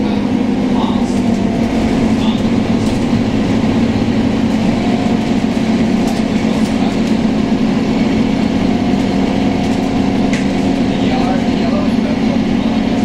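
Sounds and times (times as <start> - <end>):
bus diesel engine drone: 0.0 - 13.0
road noise: 0.0 - 13.0.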